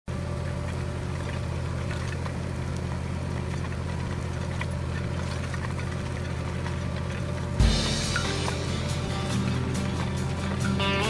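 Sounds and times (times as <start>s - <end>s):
tractor engine running: 0.1s - 11.0s.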